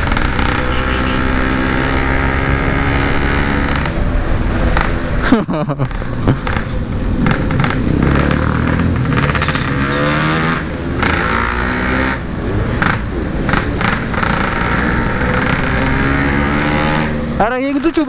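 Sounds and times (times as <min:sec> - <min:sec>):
two-stroke motorcycle engine revving: 0:00.0 - 0:05.2, 0:05.8 - 0:18.0.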